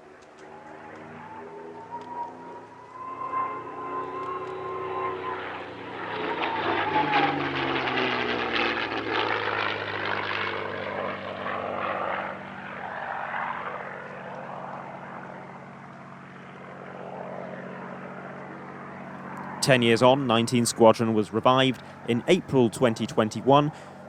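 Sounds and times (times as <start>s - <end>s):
propeller plane engine passing: 0.0s - 24.0s.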